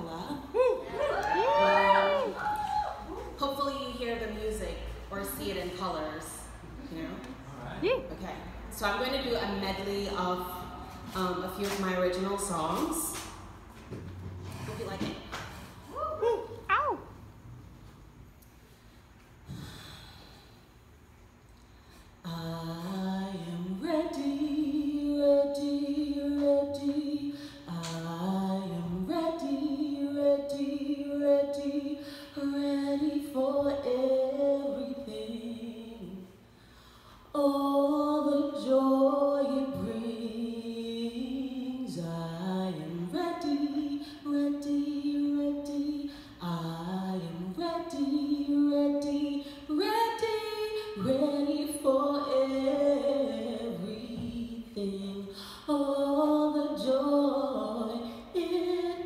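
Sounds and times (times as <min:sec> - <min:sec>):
woman singing a cappella: 0:00.0 - 0:06.6, 0:08.7 - 0:13.4, 0:22.2 - 0:36.5, 0:37.2 - 0:59.0.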